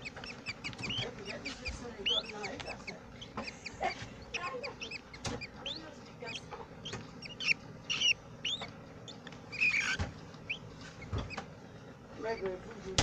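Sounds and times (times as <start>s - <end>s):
budgerigars chirping: 0.0s - 11.4s.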